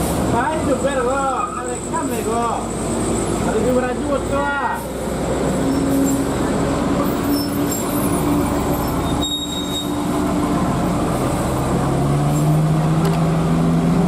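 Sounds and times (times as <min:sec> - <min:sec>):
bus diesel engine under load: 0:00.0 - 0:14.0.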